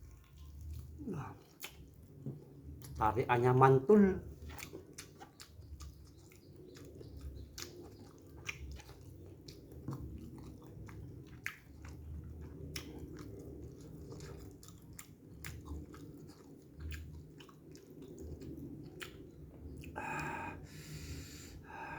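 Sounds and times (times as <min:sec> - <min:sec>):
close-miked chewing: 0:00.0 - 0:21.9.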